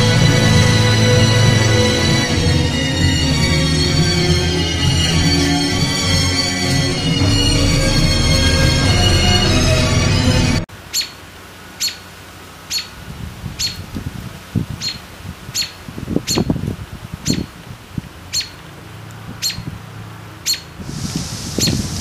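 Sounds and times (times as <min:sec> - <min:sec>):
low forest background: 0:00.0 - 0:22.0.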